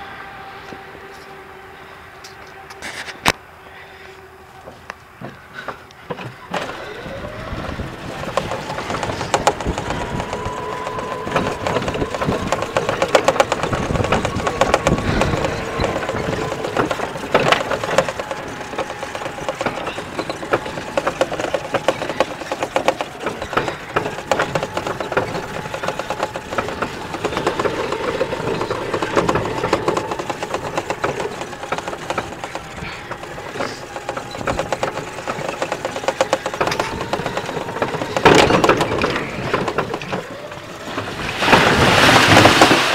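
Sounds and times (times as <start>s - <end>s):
cart body rattling: 5.2s - 42.9s
electric motor whine: 6.3s - 42.5s.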